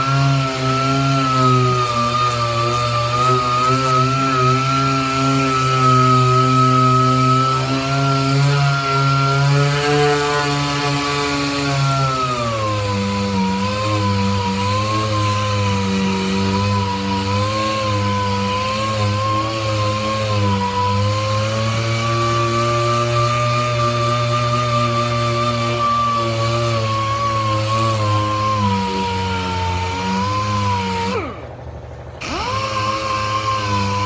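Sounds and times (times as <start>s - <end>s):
power sander whining on metal: 0.0s - 34.0s.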